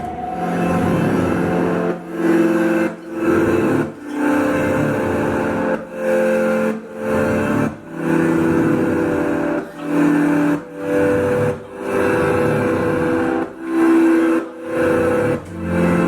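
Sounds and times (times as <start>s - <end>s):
sustained guitar chords: 0.0s - 13.6s.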